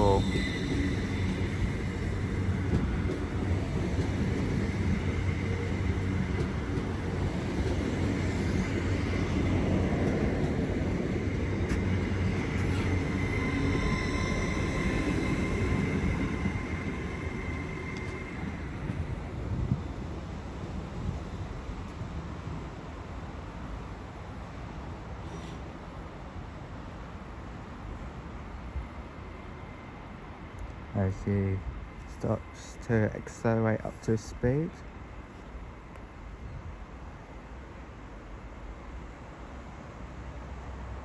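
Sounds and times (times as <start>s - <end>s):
train rumbling with high whine: 0.0s - 41.0s.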